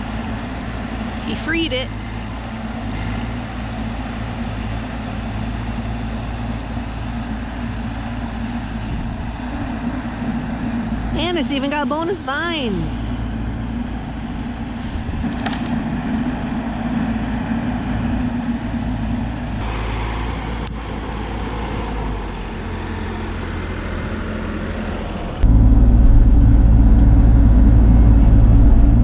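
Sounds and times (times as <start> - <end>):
mini excavator diesel engine: 0.0 - 29.0.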